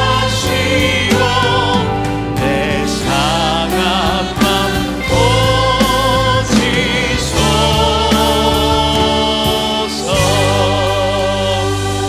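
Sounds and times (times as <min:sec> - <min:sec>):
band playing: 0:00.0 - 0:12.0
choir singing: 0:00.0 - 0:12.0
held bass notes: 0:00.0 - 0:12.0
male lead singer: 0:00.0 - 0:12.0
steady drum beat: 0:00.0 - 0:12.0.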